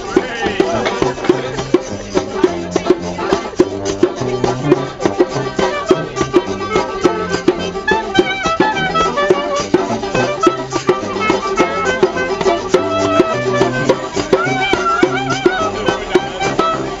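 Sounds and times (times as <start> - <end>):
clarinet melody: 0.0 - 17.0
djembe hand drum: 0.0 - 17.0
strummed banjo: 0.0 - 17.0
washboard rhythm: 0.0 - 17.0.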